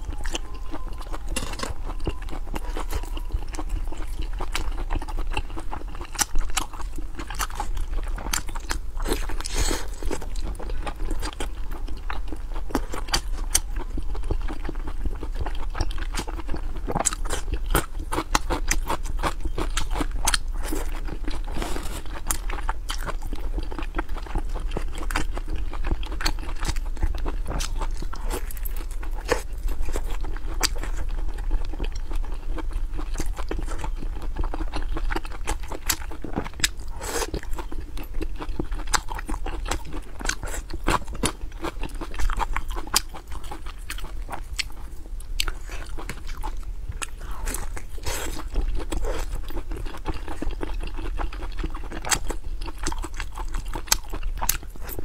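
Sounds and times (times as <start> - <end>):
person chewing meat: 0.0 - 55.0.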